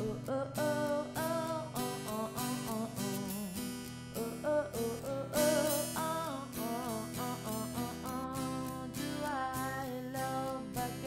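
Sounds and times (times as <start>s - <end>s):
strummed acoustic guitar song: 0.0s - 11.0s.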